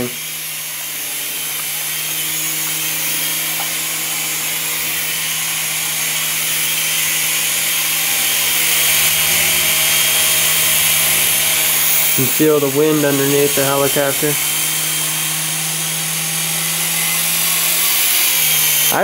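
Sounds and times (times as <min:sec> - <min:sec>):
toy helicopter whirring: 0:00.0 - 0:19.0.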